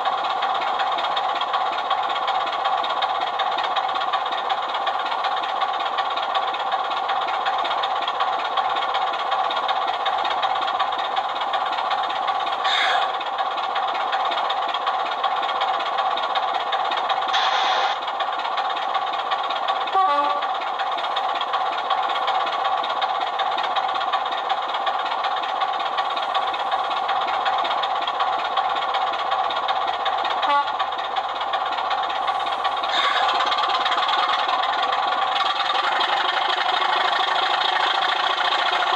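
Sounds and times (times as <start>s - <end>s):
model locomotive diesel engine sound: 0.0s - 38.9s.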